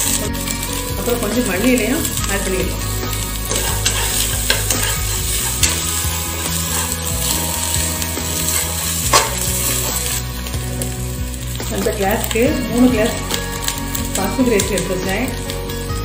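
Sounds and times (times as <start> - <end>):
onions and spices sizzling in oil: 0.0 - 16.0.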